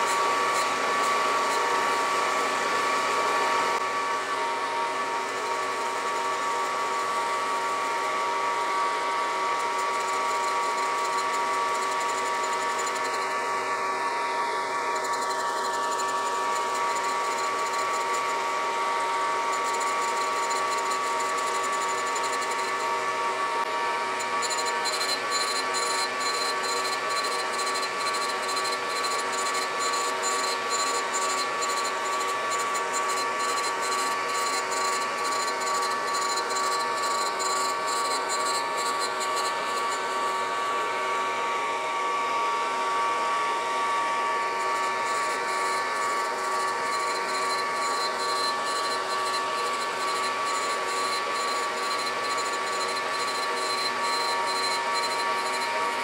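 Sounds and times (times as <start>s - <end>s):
surface grinder whining: 0.0s - 56.0s.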